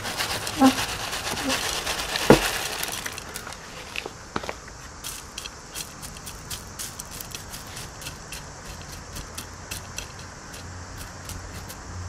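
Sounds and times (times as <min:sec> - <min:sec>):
clay pebbles clicking and rattling: 0:00.0 - 0:12.0.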